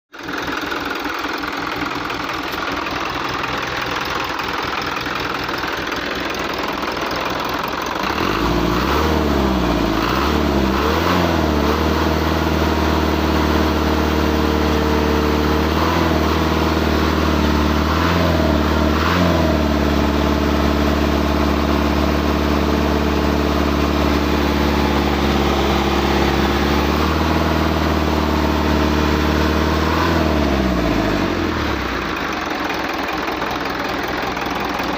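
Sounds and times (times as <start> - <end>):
diesel truck engine revving: 1.6 - 34.9.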